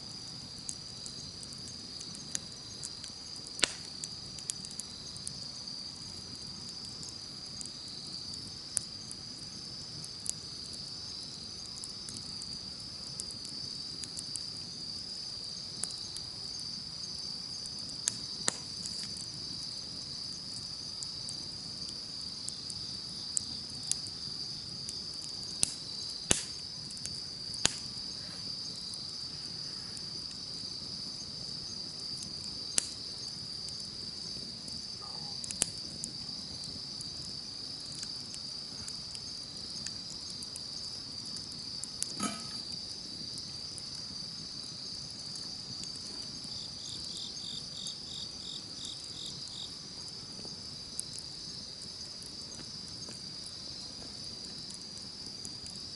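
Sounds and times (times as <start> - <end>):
insects chirping: 0.0 - 55.9
campfire crackling and popping: 0.1 - 55.9.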